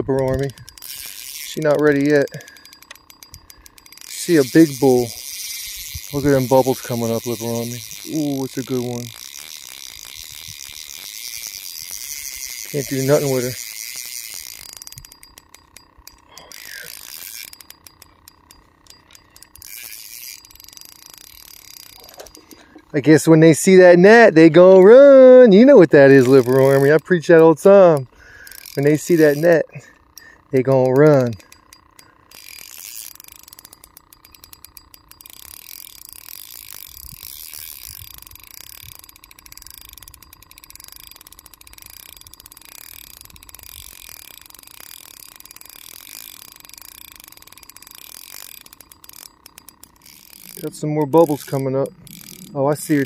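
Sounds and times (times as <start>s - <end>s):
fishing reel drag clicking: 0.0s - 53.0s.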